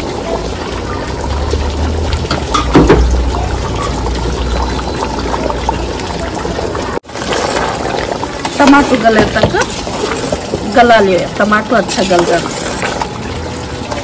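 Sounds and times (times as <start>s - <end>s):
gravy bubbling in a pot: 0.0s - 14.0s.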